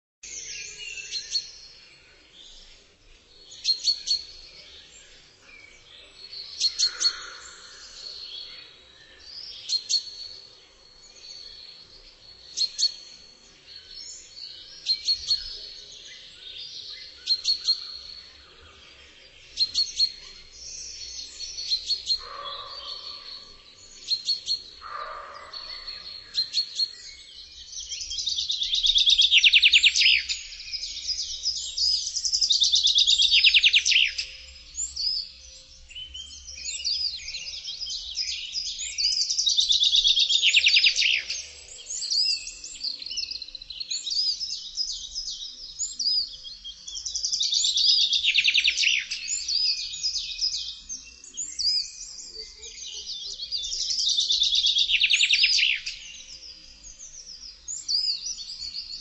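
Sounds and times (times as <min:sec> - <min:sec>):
birds chirping: 0:00.2 - 0:59.0.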